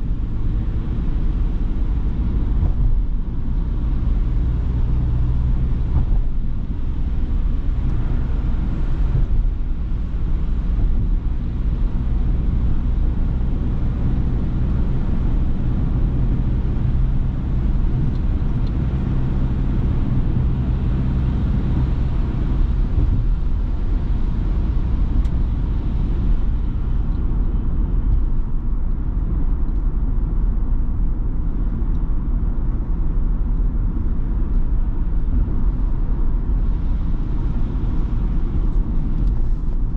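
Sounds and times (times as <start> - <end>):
van engine and road drone: 0.0 - 39.9.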